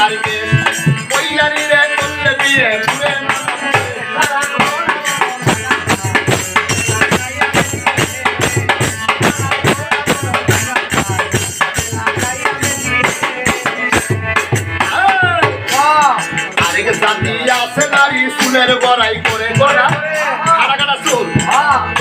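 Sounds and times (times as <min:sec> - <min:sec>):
hand drum beat: 0:00.0 - 0:22.0
man singing: 0:00.0 - 0:22.0.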